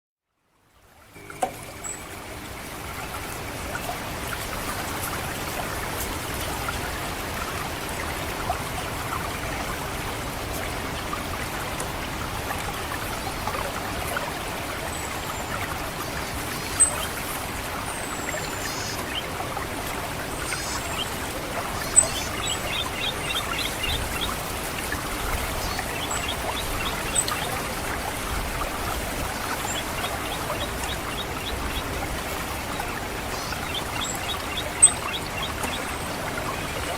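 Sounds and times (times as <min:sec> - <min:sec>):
water trickling: 0:00.7 - 0:36.9.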